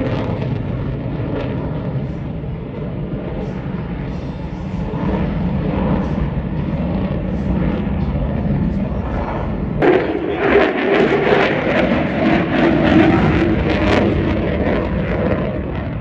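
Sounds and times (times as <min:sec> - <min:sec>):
jet engine rumbling: 0:00.0 - 0:16.0.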